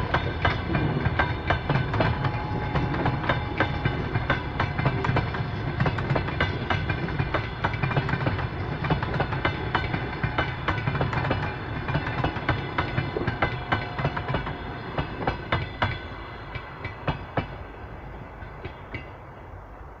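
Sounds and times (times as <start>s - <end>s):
train wheels clattering over joints: 0.0s - 17.7s
steady train rumble: 0.0s - 20.0s.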